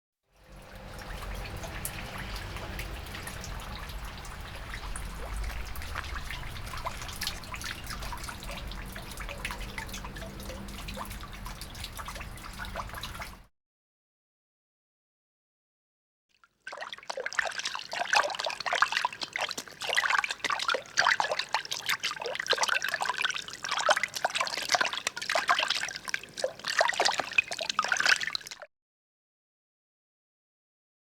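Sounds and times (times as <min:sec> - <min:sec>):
water trickling and splashing: 0:00.4 - 0:13.5, 0:16.4 - 0:28.7.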